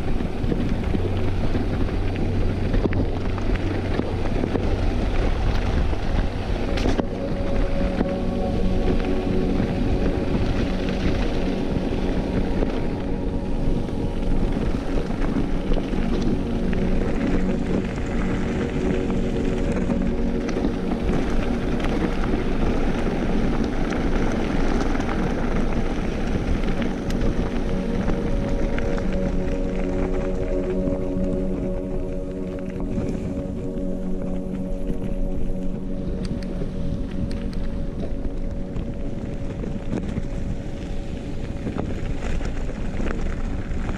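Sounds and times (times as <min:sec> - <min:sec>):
bike rattles and clicks: 0:00.0 - 0:43.9
bike tyres on loose gravel: 0:00.0 - 0:43.9
wind on microphone: 0:00.0 - 0:43.9.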